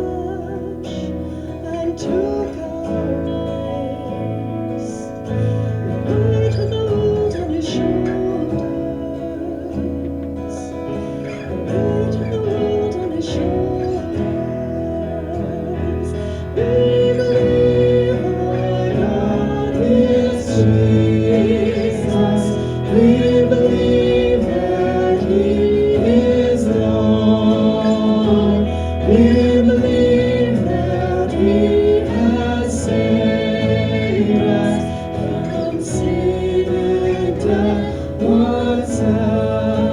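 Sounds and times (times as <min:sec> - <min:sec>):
acoustic guitar: 0:00.0 - 0:39.9
voices singing worship song: 0:00.0 - 0:39.9.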